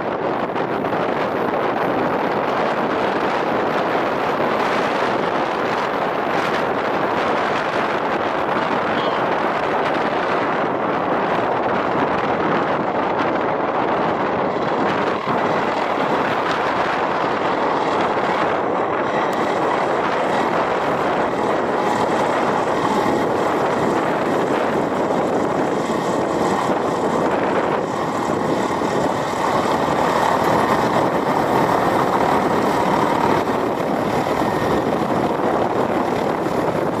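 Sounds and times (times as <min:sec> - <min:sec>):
helicopter engines and rotor: 0:00.0 - 0:37.0.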